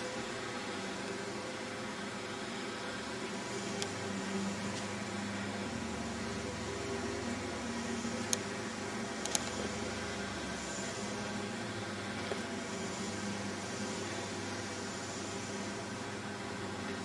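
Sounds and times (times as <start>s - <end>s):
mechanical hum and hiss: 0.0s - 17.0s.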